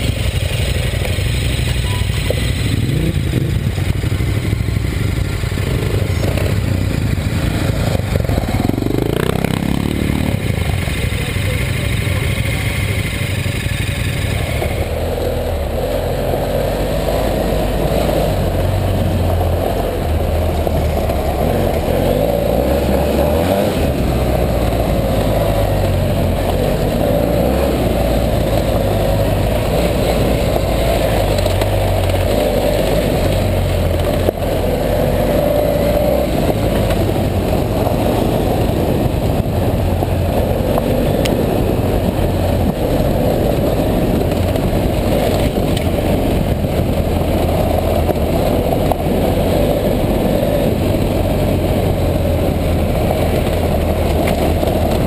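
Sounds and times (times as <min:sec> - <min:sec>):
motorcycle engine running: 0:00.0 - 0:55.0
tyres on gravel: 0:00.0 - 0:55.0
wind rush: 0:02.6 - 0:10.8, 0:13.4 - 0:55.0.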